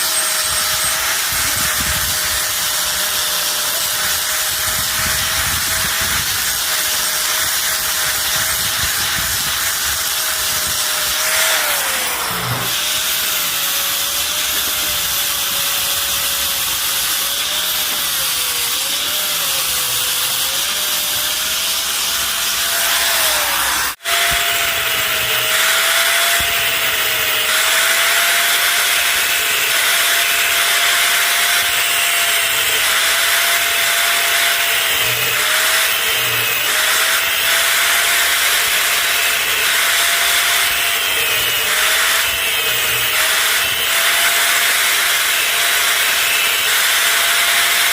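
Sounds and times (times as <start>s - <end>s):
power tool whining on metal: 0.0s - 47.9s.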